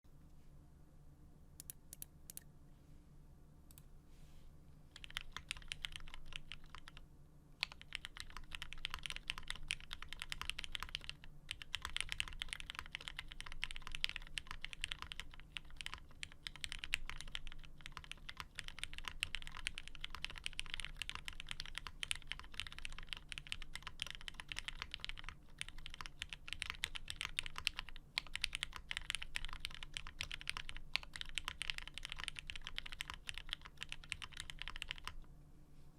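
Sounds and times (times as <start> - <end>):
typing on mechanical keyboard: 5.0 - 7.0, 7.6 - 35.2.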